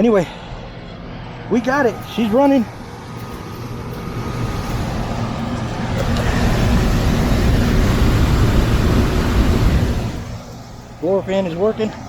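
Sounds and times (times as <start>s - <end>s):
blower fan whooshing: 0.0s - 12.0s.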